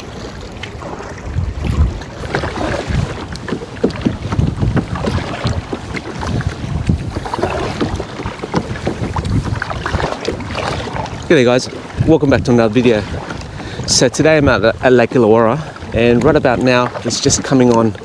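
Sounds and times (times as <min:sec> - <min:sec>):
kayak paddles splashing in water: 0:00.0 - 0:18.0
wind buffeting microphone: 0:00.0 - 0:18.0.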